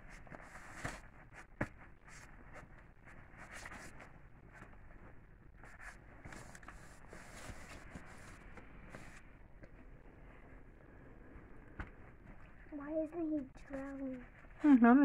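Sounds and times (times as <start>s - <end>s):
rustling on fabric bedding: 0.0s - 15.0s.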